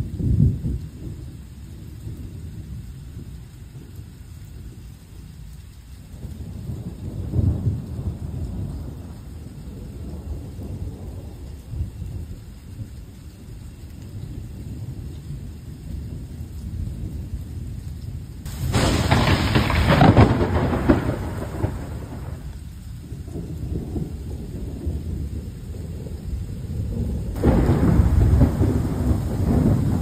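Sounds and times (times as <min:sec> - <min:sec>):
steady rain: 0:00.0 - 0:30.0
thunderclaps rumbling: 0:00.0 - 0:30.0.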